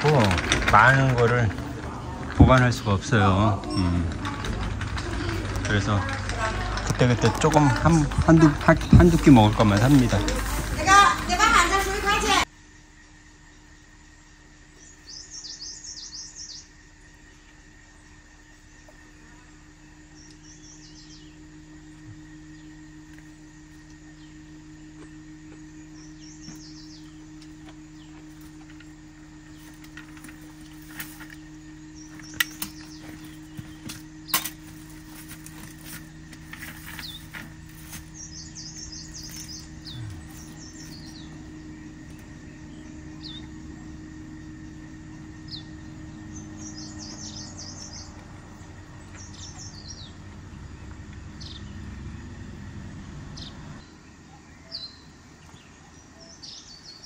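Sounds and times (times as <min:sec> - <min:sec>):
birds chirping: 0:00.0 - 0:57.0
steady low hum: 0:00.0 - 0:57.0.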